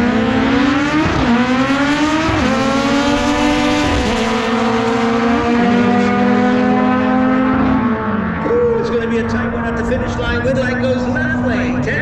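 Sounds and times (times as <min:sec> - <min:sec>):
drag racing car accelerating: 0:00.0 - 0:12.0.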